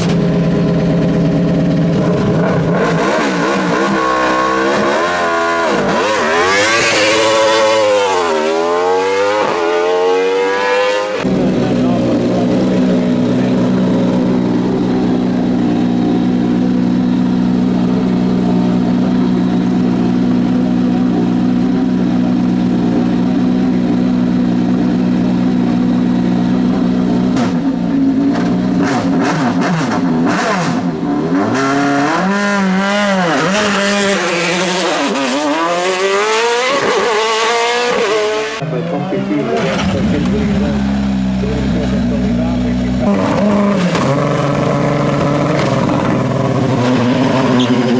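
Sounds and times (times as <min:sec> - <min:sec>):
race car engine revving: 0:00.0 - 0:47.9.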